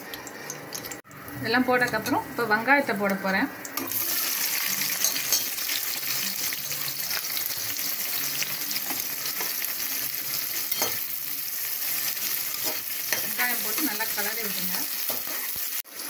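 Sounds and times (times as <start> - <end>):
onions sizzling in hot oil: 2.4 - 16.0.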